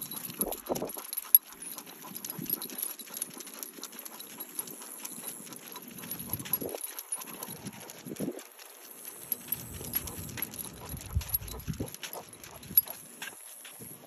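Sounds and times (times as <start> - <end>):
dog claws clicking on pavement: 0.1 - 14.0.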